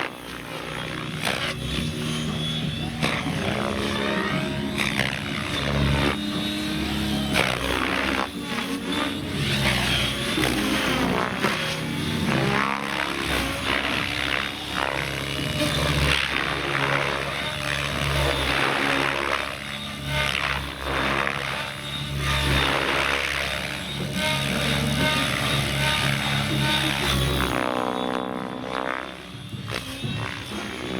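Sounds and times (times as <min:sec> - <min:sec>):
rc helicopter motor and rotor: 0:00.0 - 0:30.9.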